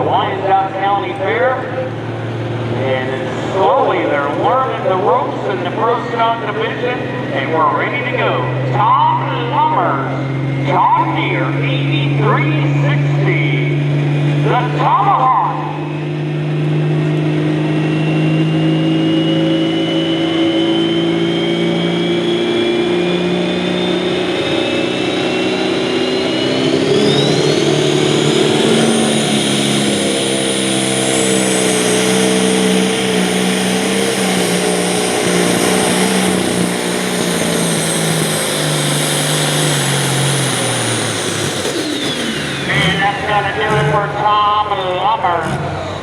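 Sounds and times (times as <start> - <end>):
high turbo whine: 0.0 - 46.0
tractor diesel engine at full power: 0.0 - 46.0.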